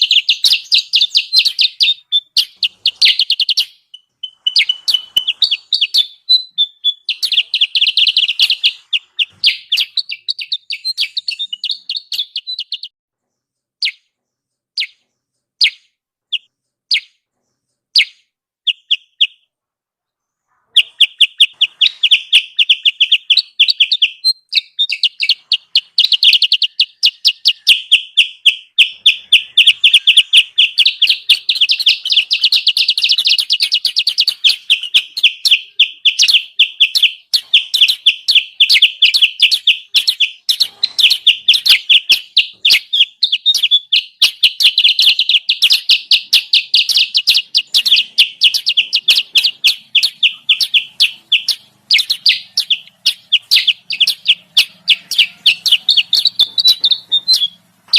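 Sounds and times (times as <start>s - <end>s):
bird high chirps and chattering: 0.0s - 13.0s, 13.7s - 19.4s, 20.2s - 57.9s.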